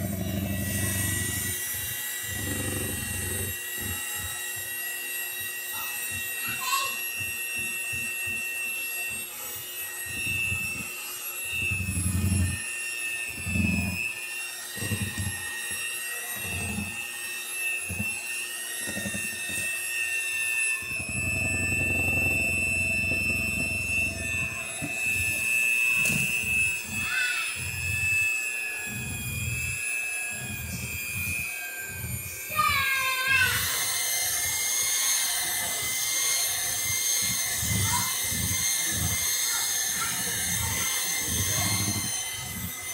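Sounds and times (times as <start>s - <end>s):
electric hand mixer whining: 0.0s - 42.9s.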